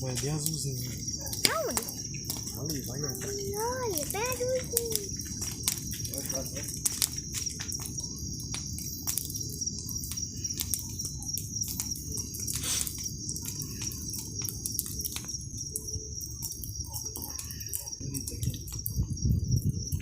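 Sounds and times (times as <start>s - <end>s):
bonfire crackling and popping: 0.0s - 20.0s
low rush of flames: 0.0s - 20.0s.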